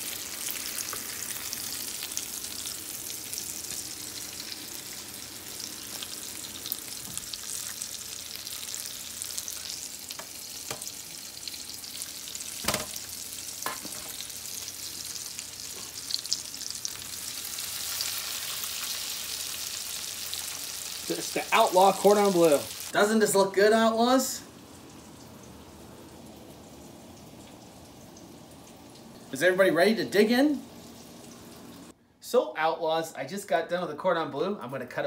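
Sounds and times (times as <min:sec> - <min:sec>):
chicken sizzling in hot oil: 0:00.0 - 0:23.4, 0:24.3 - 0:32.0.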